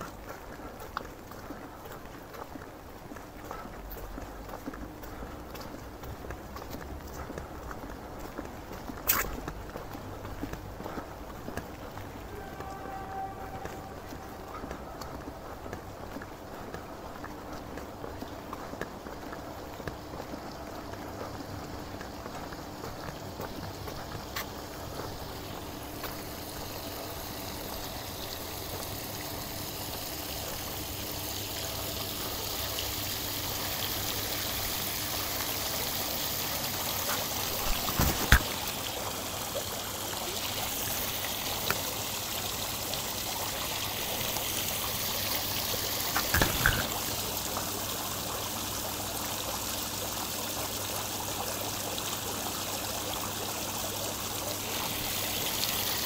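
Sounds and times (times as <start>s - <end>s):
running water: 0.0s - 56.0s
steady rain: 0.0s - 56.0s.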